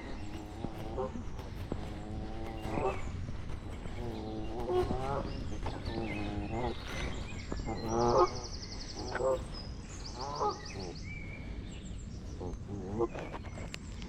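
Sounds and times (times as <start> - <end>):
geese honking: 0.0 - 11.5
songbird trilling: 0.0 - 14.0.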